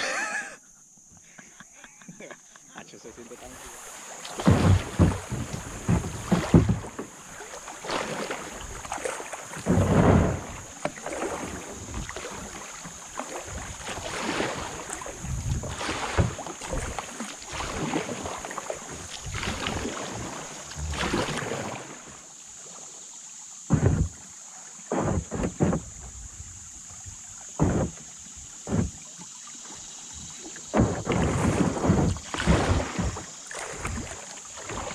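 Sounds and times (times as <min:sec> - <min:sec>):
steady high-pitched hiss: 0:00.0 - 0:31.1
kayak paddle splashing: 0:02.2 - 0:34.9
water washing along hull: 0:03.0 - 0:34.9.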